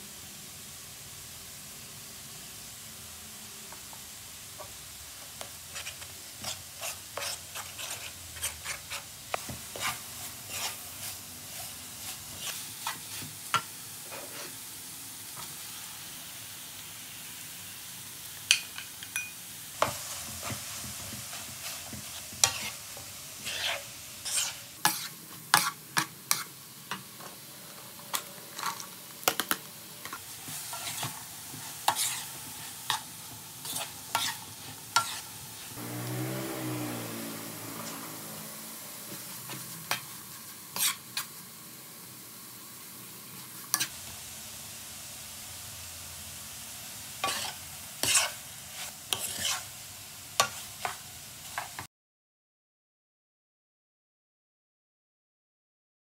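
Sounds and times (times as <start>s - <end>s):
food sizzling in frying pan: 0.0s - 51.9s.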